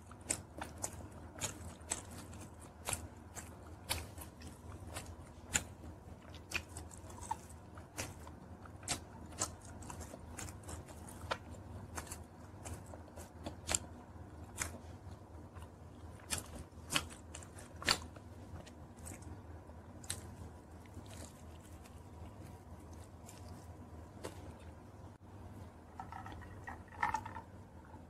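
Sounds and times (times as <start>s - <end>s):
chewing with wet mouth clicks: 0.0s - 24.8s.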